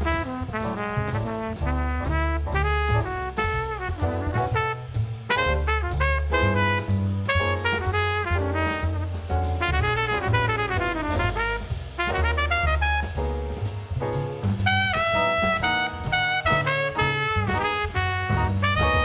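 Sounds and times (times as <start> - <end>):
trumpet solo: 0.0 - 13.4, 14.6 - 19.0
drum kit cymbals: 0.0 - 19.0
upright bass: 0.0 - 19.0.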